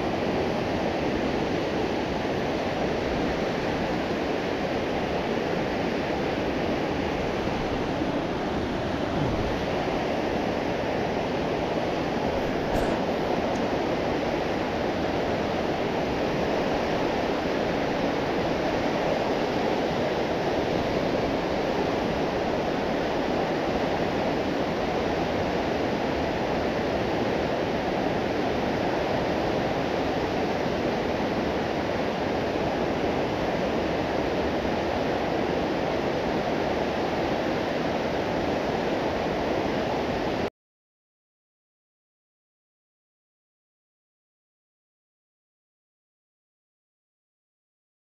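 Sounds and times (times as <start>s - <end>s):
river rushing over rapids: 0.0s - 40.5s.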